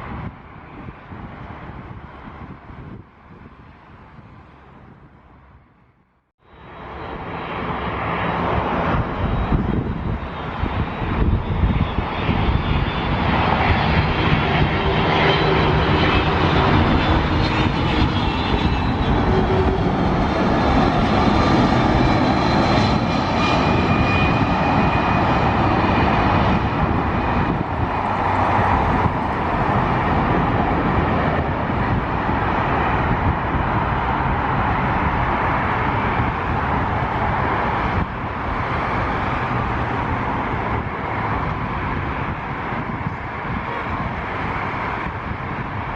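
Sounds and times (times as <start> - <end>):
jet engines whining and rumbling: 0.0 - 45.9.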